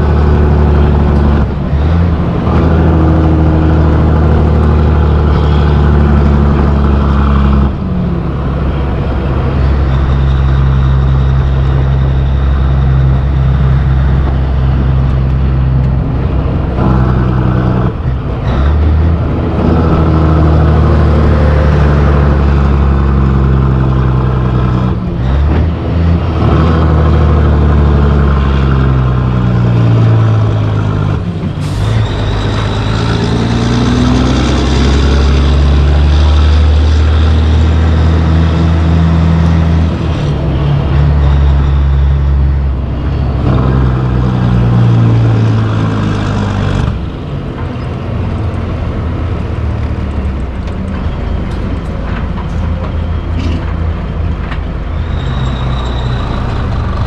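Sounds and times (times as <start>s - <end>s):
diesel truck engine shifting gears: 0.0s - 57.0s.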